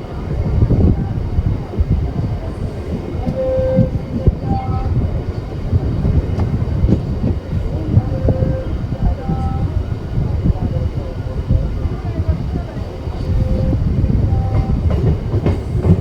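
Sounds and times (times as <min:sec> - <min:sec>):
train coaches rumbling: 0:00.0 - 0:16.0.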